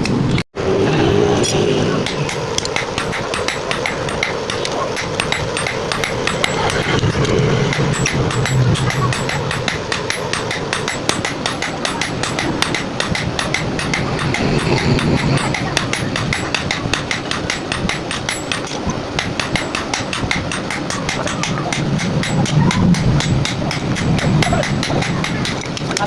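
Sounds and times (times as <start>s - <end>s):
hammer striking steel: 2.0s - 26.0s.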